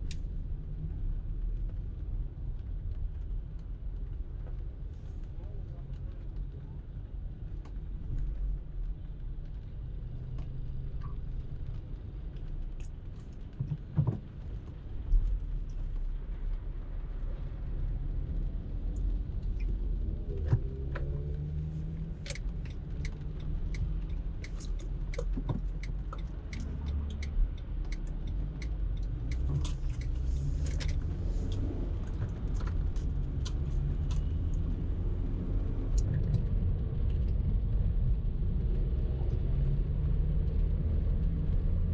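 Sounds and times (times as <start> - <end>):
road and engine rumble: 0.0 - 41.9.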